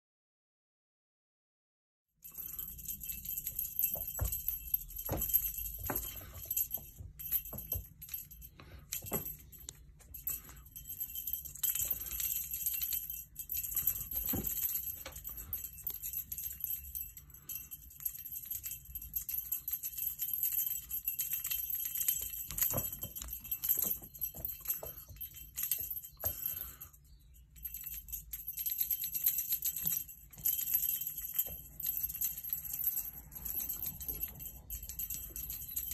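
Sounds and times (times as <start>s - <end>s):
small bell jingling: 2.2s - 35.9s.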